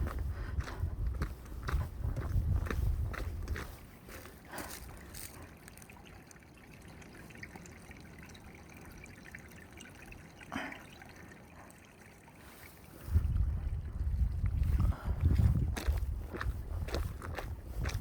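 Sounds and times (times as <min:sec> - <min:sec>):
faint stream trickling: 0:00.0 - 0:18.0.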